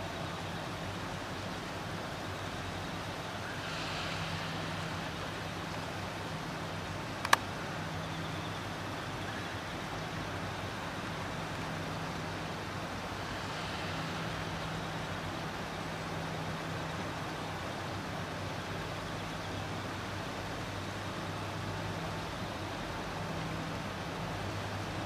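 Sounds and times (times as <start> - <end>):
even hiss: 0.0 - 25.0
low mechanical hum: 0.0 - 25.0.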